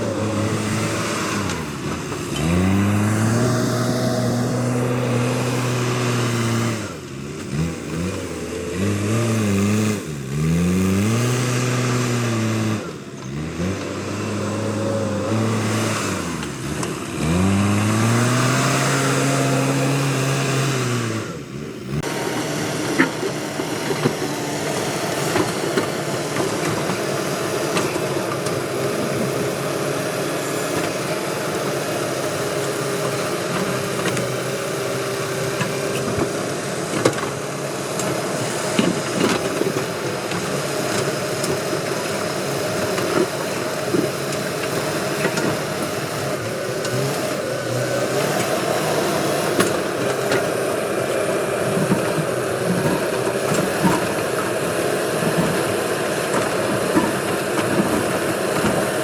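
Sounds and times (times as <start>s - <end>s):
diesel engine revving: 0.0s - 59.0s
steady rough noise: 0.0s - 59.0s.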